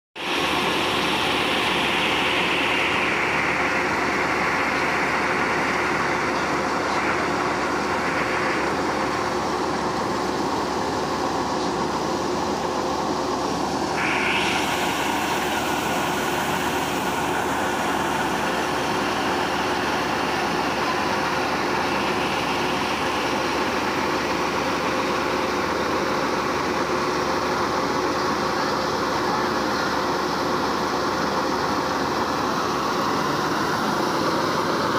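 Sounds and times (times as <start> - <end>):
combine harvester engine humming: 0.2 - 34.9.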